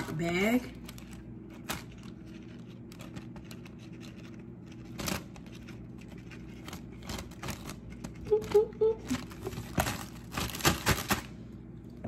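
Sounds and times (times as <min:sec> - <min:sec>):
plastic bag rustling: 0:00.0 - 0:11.5.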